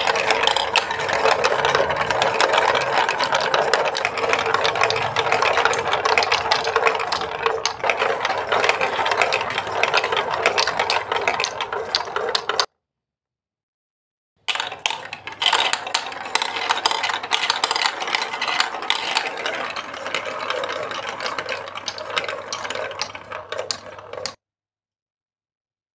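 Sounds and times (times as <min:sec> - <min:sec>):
plastic balls rattling down marble run: 0:00.0 - 0:12.7, 0:14.5 - 0:24.4.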